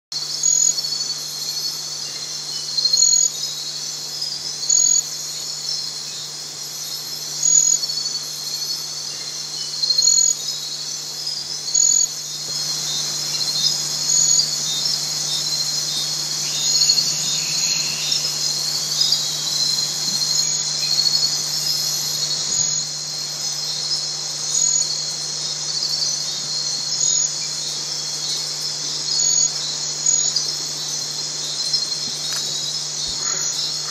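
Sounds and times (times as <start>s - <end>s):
insect chirping: 0.2s - 33.9s
insects trilling: 0.2s - 33.9s
low steady hum: 0.4s - 33.9s.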